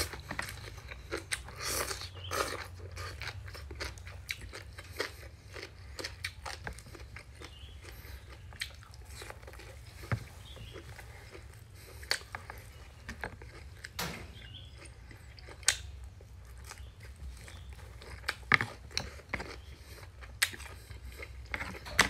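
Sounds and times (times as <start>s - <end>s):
low steady hum: 0.0s - 22.0s
person chewing food: 0.0s - 22.0s.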